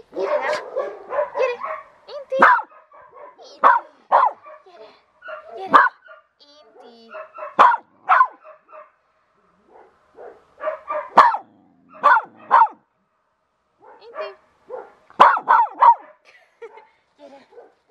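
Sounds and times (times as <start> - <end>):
dog barking: 0.1 - 9.0, 9.6 - 12.8, 13.8 - 16.9, 17.5 - 17.8.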